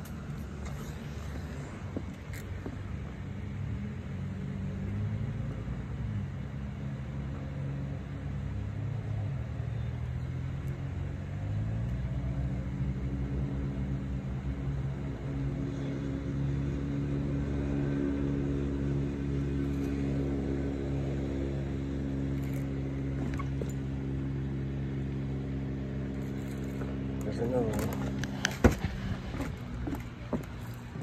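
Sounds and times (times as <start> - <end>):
engine running with low hum: 0.0 - 31.0.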